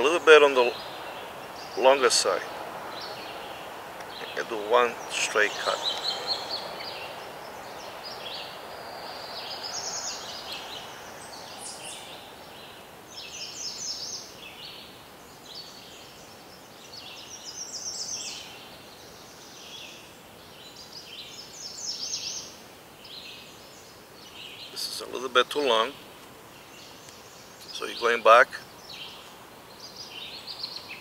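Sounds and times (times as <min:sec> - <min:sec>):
small birds chirping: 0:00.0 - 0:31.0
steady background hiss: 0:00.0 - 0:31.0.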